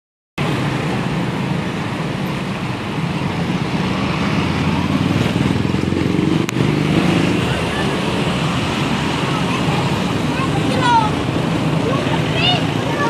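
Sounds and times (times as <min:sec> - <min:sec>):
bus engine rumbling: 0:00.4 - 0:13.0
road traffic: 0:00.4 - 0:13.0.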